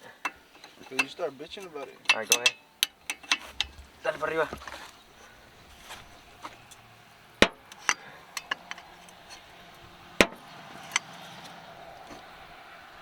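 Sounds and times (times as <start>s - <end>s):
tools knocking on metal parts: 0.0s - 12.3s.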